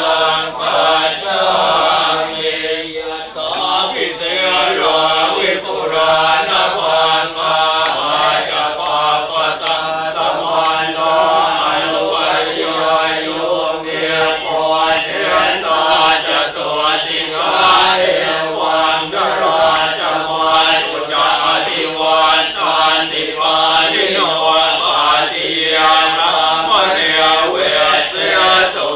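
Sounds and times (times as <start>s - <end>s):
monks chanting in unison: 0.0s - 28.9s.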